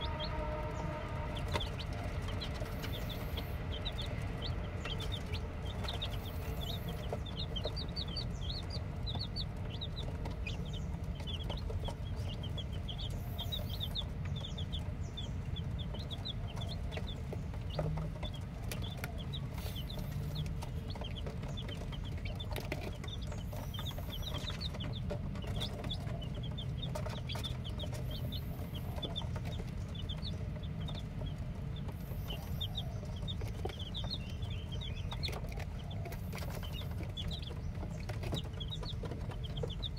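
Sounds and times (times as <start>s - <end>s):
chicks peeping: 0.0s - 39.9s
low rumble: 0.0s - 39.9s.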